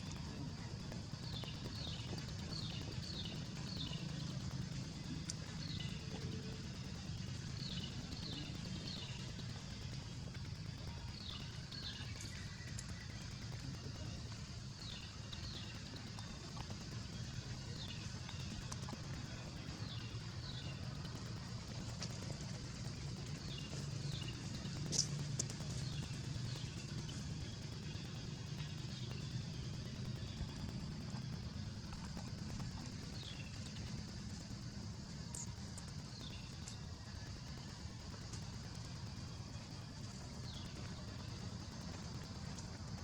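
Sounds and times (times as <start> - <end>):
low hum: 0.0 - 43.0
steady low rumble: 0.0 - 43.0.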